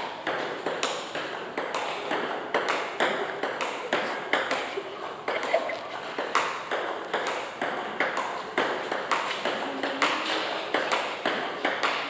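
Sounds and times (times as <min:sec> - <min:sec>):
table tennis ball struck with paddle: 0:00.0 - 0:12.0.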